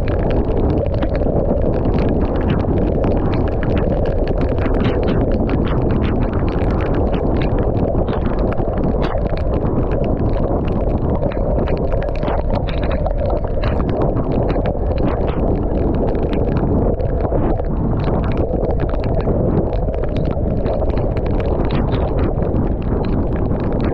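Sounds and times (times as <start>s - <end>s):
raindrops ticking on microphone: 0.0s - 23.9s
wind rushing over microphone: 0.0s - 23.9s.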